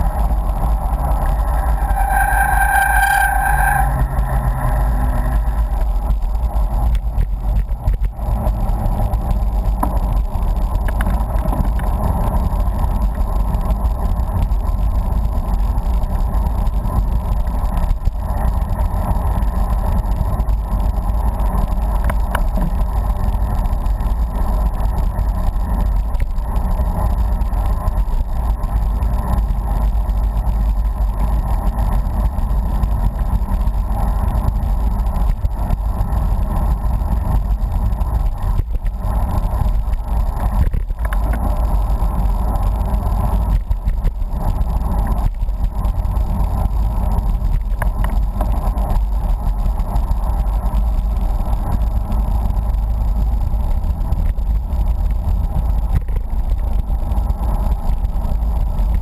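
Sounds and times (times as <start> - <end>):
bicycle road noise: 0.0 - 59.0.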